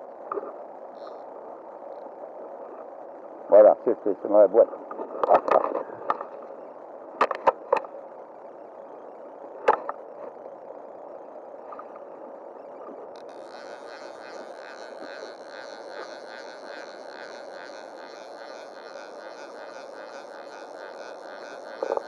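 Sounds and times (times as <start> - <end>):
steady buzzing hiss: 0.0 - 22.0.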